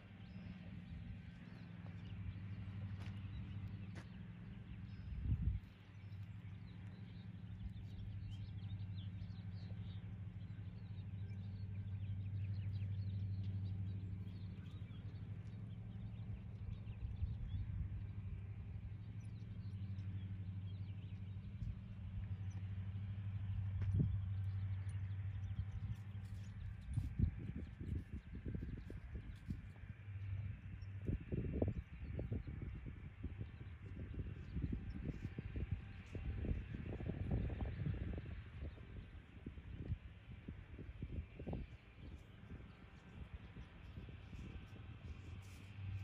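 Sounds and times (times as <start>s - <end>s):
birds chirping: 0.0s - 46.0s
steady low hum: 0.0s - 46.0s.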